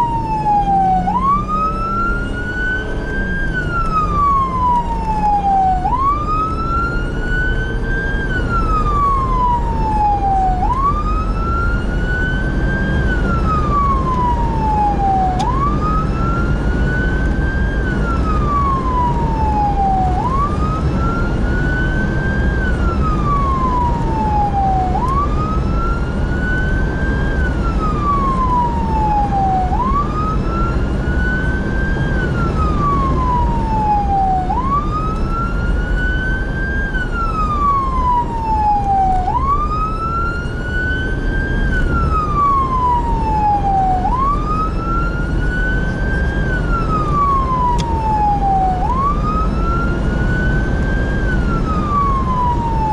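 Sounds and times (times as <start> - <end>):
siren wailing: 0.0 - 52.9
vehicle engine and road noise: 0.0 - 52.9.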